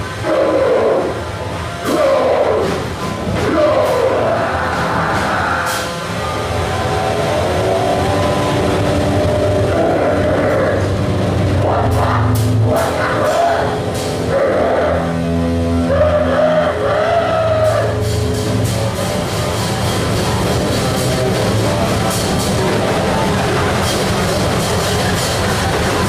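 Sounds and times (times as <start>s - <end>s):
harsh noise music: 0.0s - 26.0s
low drone: 0.0s - 26.0s.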